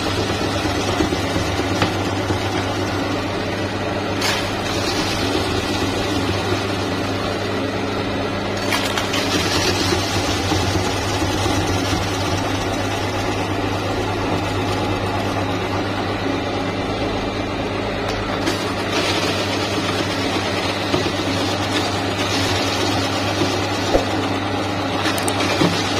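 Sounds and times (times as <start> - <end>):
electric meat grinder humming: 0.0 - 25.9.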